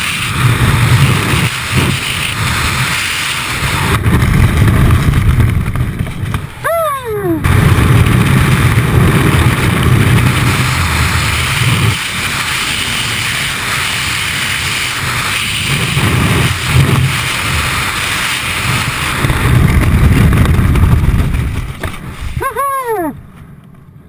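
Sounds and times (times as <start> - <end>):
wind rushing over microphone: 0.0 - 23.3.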